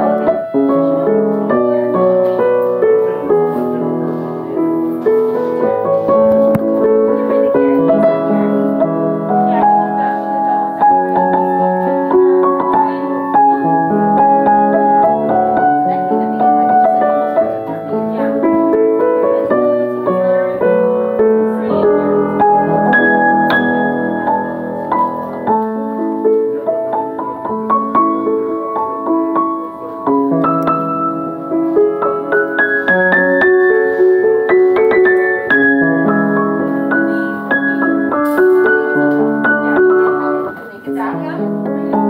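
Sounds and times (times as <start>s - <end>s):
piano melody over chords: 0.0s - 42.0s.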